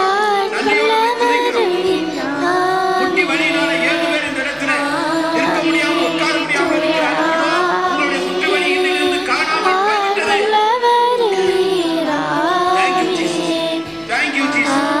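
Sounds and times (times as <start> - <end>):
person singing ornamented melody: 0.0 - 15.0.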